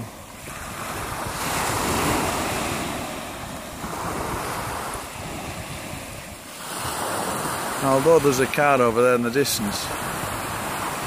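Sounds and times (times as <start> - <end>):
small waves breaking on shore: 0.0 - 11.0.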